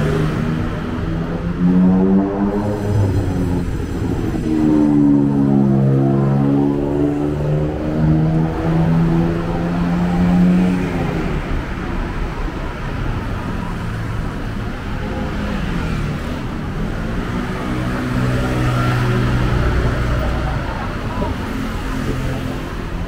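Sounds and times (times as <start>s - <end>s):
traffic rumble: 0.0s - 23.0s
vehicle engines running: 0.0s - 23.0s.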